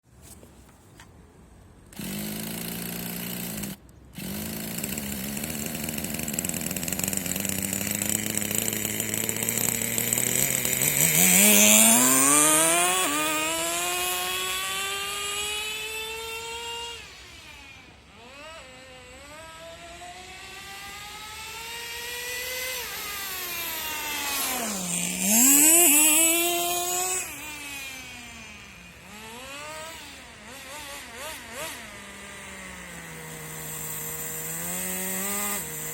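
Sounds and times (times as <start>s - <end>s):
small nitro engine revving: 1.9s - 35.9s.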